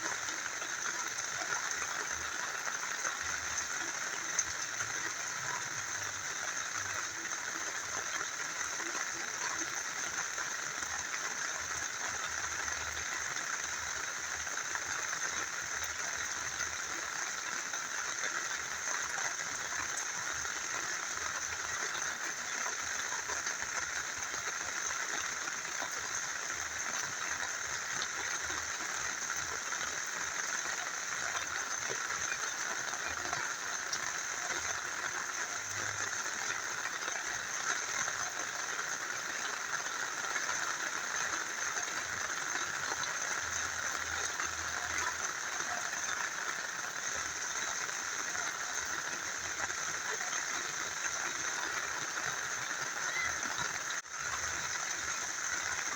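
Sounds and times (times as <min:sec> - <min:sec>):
small river flowing: 0:00.0 - 0:55.9
steady rain falling: 0:00.0 - 0:55.9.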